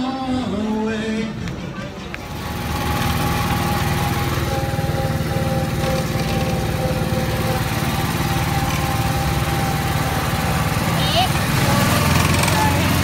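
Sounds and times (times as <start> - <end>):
small engine chugging: 2.2 - 13.0.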